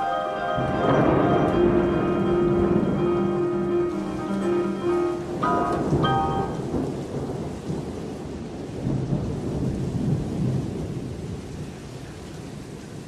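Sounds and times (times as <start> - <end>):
low thunder rumbling: 0.0 - 13.0
steady rain: 0.0 - 13.0.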